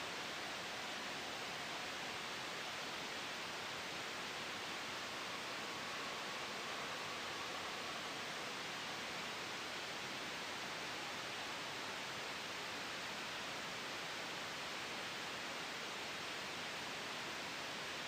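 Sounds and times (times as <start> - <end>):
soft wind hiss: 0.0 - 18.0
white noise: 0.0 - 18.0.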